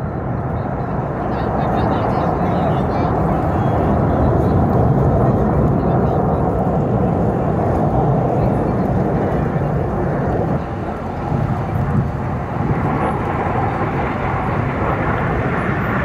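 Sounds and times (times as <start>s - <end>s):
jets flying over: 0.0s - 16.0s.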